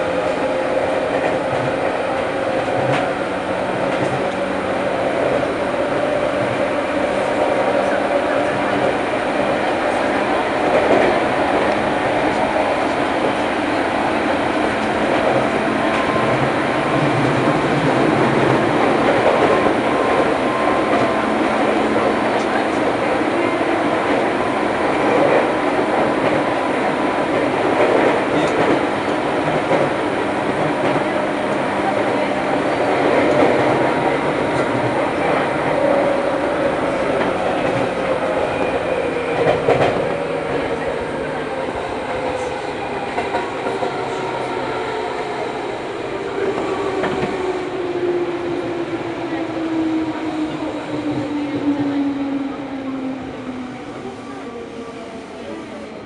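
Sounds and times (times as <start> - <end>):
train hum: 0.0 - 56.0
train wheels rumbling on rail: 0.0 - 56.0
clickety-clack over rail joints: 0.2 - 53.1.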